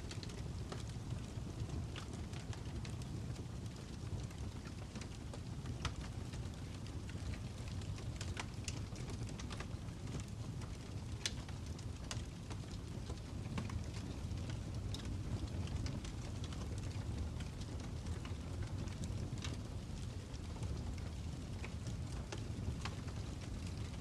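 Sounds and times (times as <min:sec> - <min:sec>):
fire roaring low: 0:00.0 - 0:24.0
wood fire crackling: 0:00.0 - 0:24.0.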